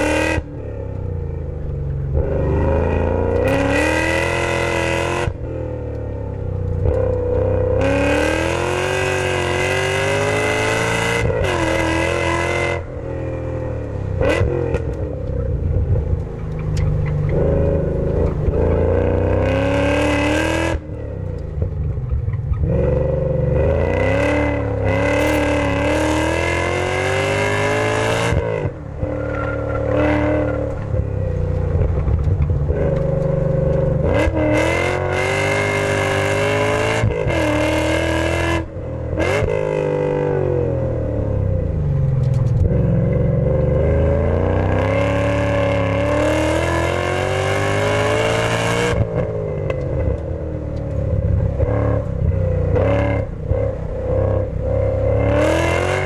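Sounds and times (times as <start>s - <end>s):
car exhaust under hard acceleration: 0.0s - 56.0s.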